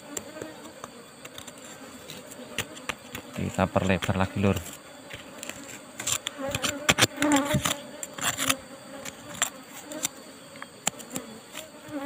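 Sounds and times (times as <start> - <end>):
bees buzzing: 0.0 - 12.0
tool scraping soil and stone: 1.2 - 11.8.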